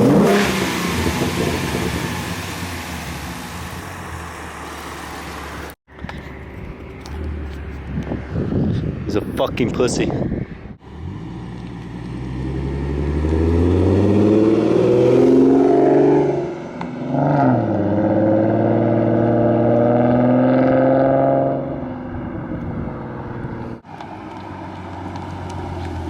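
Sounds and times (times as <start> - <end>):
car engine accelerating hard: 0.0 - 5.8, 10.8 - 26.0.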